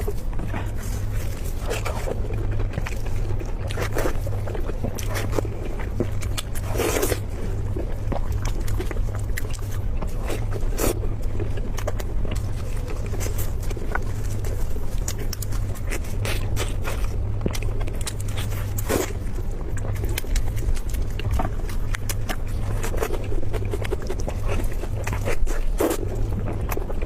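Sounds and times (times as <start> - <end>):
low hum: 0.0 - 27.0
person chewing and crunching: 0.0 - 27.0.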